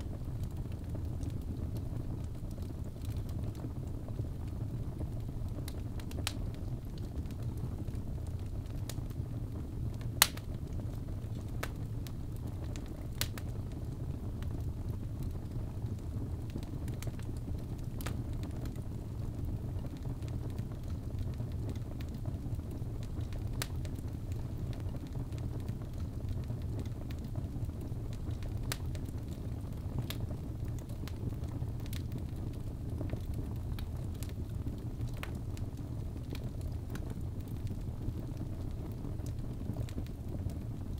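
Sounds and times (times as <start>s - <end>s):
log fire crackling and popping: 0.0s - 40.9s.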